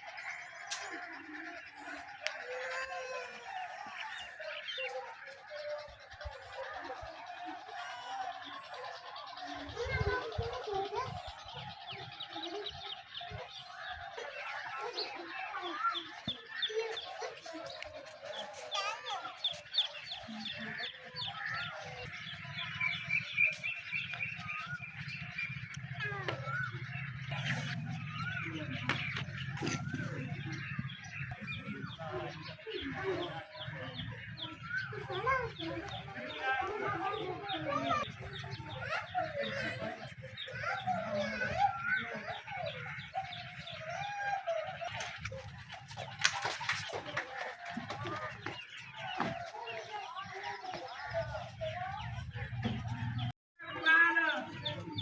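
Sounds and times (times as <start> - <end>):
chickens calling: 0.0 - 55.0
small birds chirping: 0.0 - 55.0.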